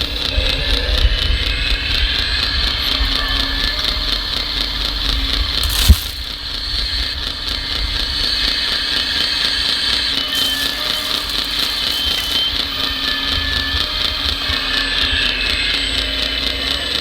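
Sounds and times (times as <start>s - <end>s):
small electric motors whining: 0.0s - 6.9s, 8.3s - 17.0s.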